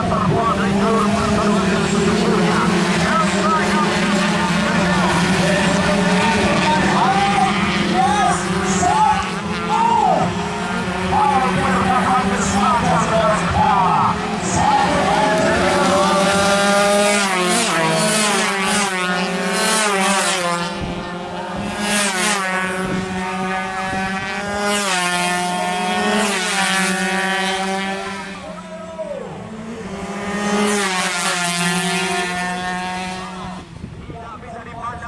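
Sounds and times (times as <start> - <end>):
racing motorcycles at full throttle: 0.0 - 35.0.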